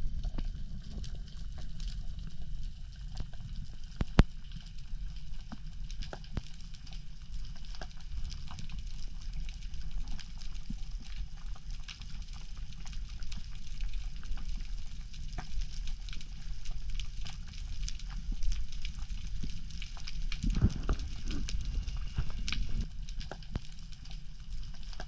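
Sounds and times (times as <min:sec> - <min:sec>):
underwater rumble: 0:00.0 - 0:25.0
crackling clicks: 0:00.1 - 0:25.0.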